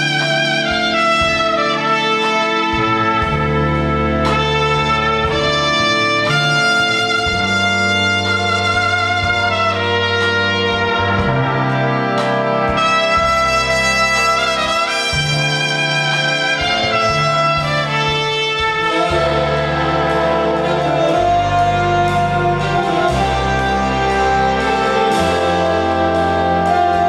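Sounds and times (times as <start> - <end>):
big band saxophones and brass: 0.0 - 27.0
solo trumpet melody: 0.0 - 27.0.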